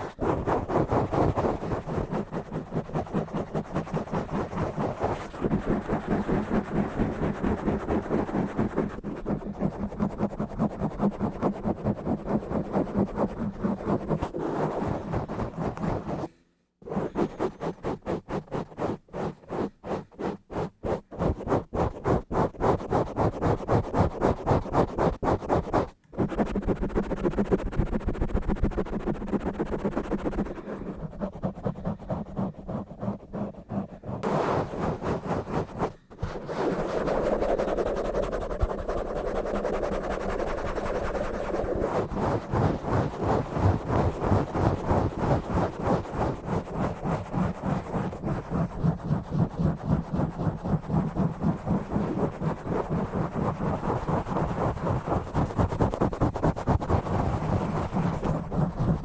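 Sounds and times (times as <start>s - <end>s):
rough scratching on camera: 0.0s - 59.0s.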